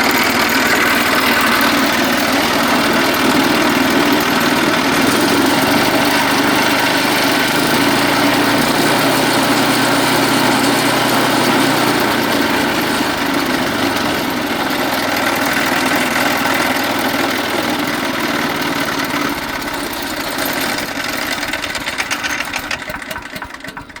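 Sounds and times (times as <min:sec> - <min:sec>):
small gas engine running: 0:00.0 - 0:24.0.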